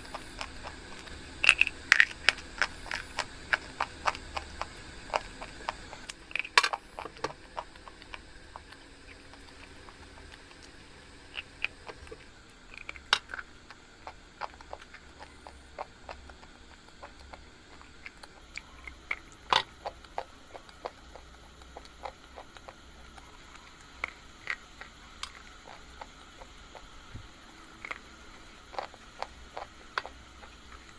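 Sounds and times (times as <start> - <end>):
crackles and snaps: 0.0 - 30.9.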